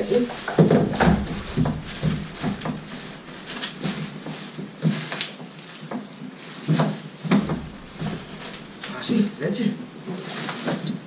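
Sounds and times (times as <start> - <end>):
kayak and cart knocking and scraping: 0.0 - 9.4.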